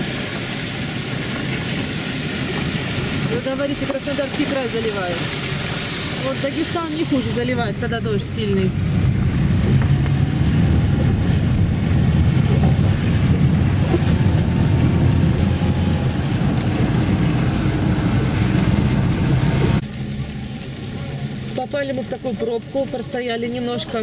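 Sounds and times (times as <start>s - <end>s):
rain on windscreen: 0.0s - 24.0s
tyres rumbling on wet road: 0.0s - 24.0s.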